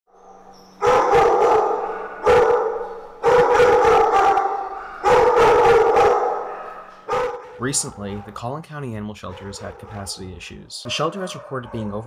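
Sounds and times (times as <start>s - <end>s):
dogs barking in kennel: 0.1s - 12.0s.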